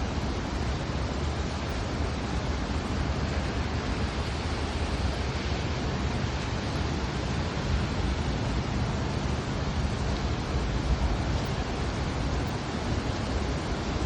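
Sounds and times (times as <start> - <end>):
heavy rain on pavement: 0.0 - 14.0.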